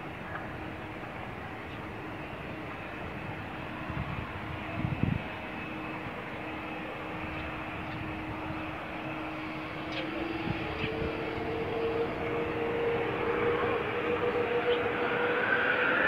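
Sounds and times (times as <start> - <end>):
jet engines humming at taxi thrust: 0.0 - 16.0.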